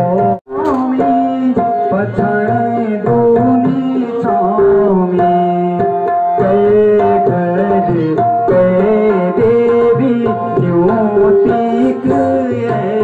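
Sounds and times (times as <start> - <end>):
harmonium: 0.0 - 13.0
man singing: 0.0 - 13.0
tabla: 0.0 - 13.0.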